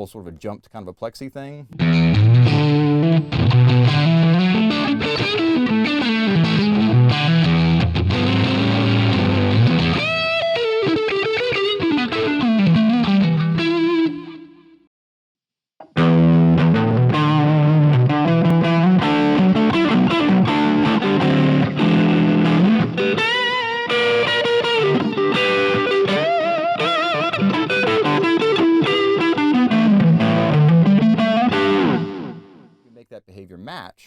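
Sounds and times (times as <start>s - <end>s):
overdriven electric guitar riff: 1.8s - 14.7s, 15.9s - 32.8s.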